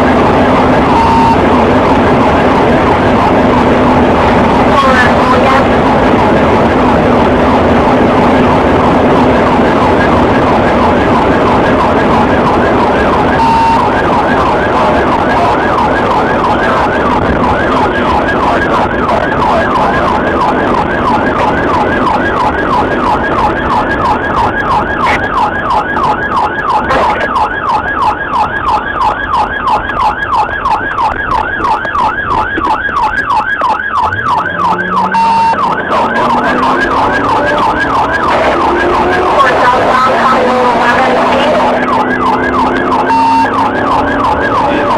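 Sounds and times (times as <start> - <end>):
engine and road noise: 0.0 - 44.9
police siren sweeping: 0.0 - 44.9.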